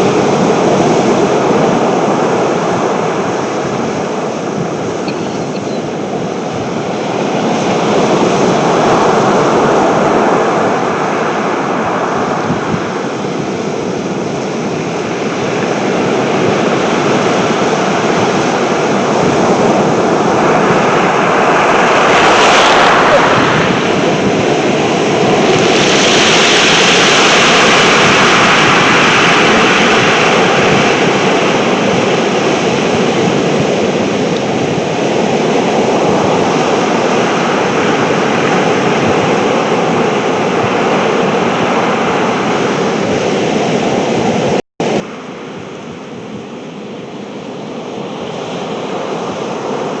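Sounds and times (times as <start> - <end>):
sea surf: 0.0 - 50.0
wind blowing across microphone: 0.0 - 50.0.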